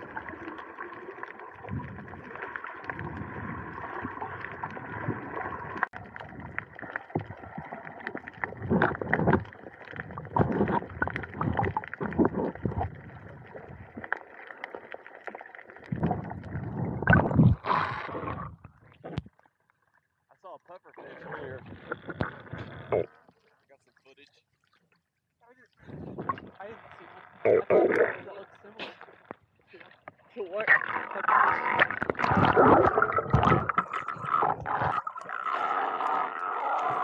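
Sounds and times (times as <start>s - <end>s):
water sloshing and splashing: 0.0s - 20.1s, 21.1s - 37.0s.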